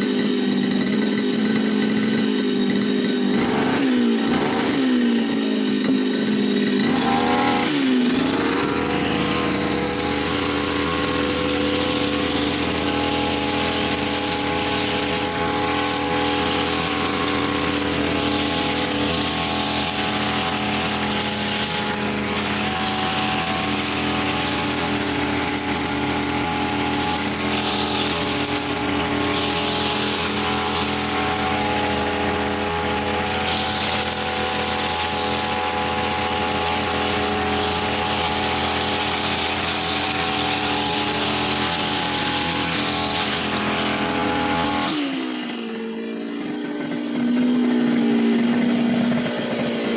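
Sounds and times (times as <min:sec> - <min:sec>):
brush cutter engine: 0:00.0 - 0:49.9.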